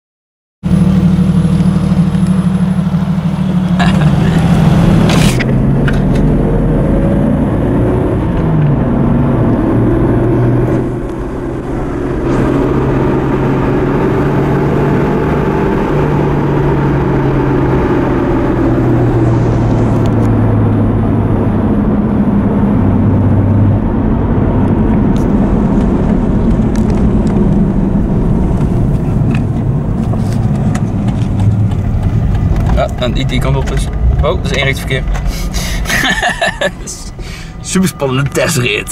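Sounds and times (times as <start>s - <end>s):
car engine and exhaust: 0.6s - 38.9s.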